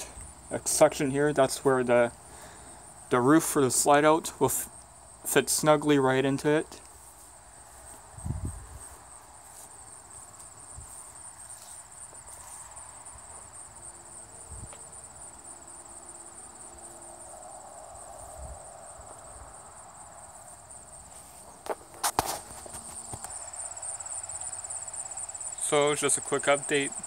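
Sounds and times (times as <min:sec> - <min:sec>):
insects chirping in a high trill: 0:00.0 - 0:27.0.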